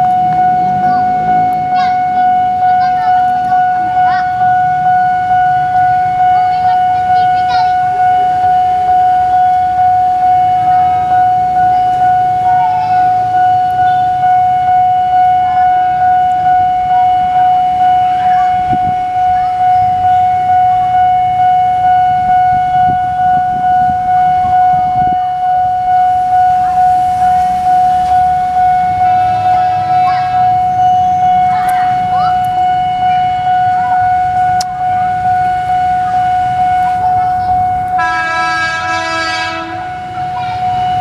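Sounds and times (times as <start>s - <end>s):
electric train rumble: 0.0s - 41.0s
level crossing bell ringing: 0.0s - 41.0s.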